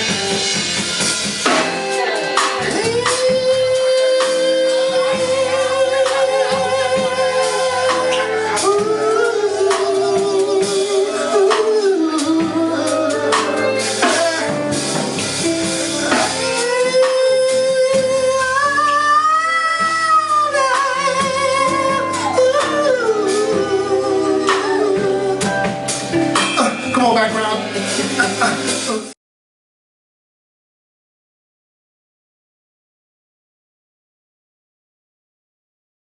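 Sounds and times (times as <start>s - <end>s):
drums: 0.0s - 29.2s
live band playing: 0.0s - 29.2s.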